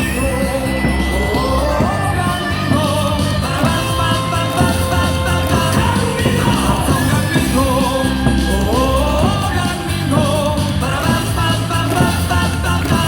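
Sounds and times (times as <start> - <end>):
cheering song over loudspeakers: 0.0 - 13.0
fans singing along: 0.0 - 13.0.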